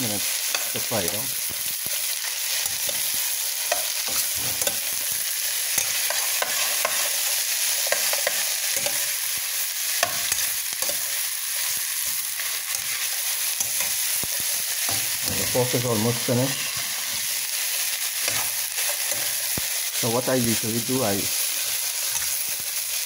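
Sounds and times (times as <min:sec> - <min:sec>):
food sizzling in a pot: 0:00.0 - 0:23.0.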